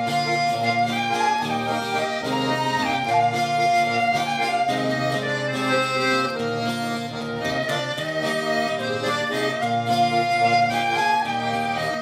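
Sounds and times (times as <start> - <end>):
diatonic accordion dance tune: 0.0 - 12.0.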